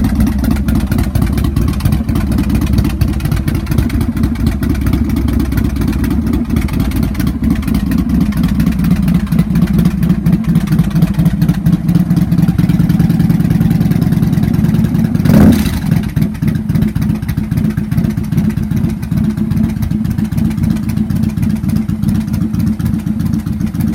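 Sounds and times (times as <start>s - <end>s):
motorcycle engine idling unevenly: 0.0s - 23.9s.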